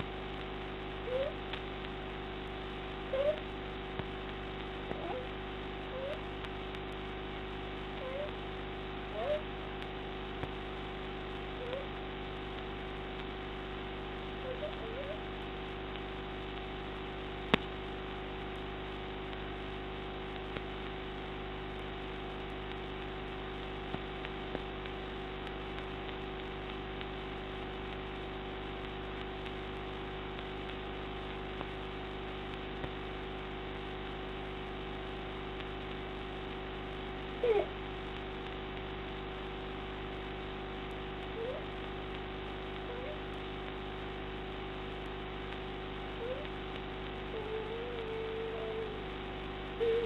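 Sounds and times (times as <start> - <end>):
room hum and hiss: 0.0 - 50.0.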